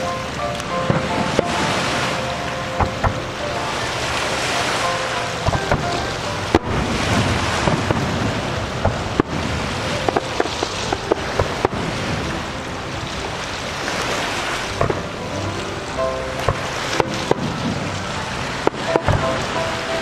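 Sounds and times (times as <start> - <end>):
fireworks crackling and rumbling: 0.6 - 4.1, 4.9 - 20.0.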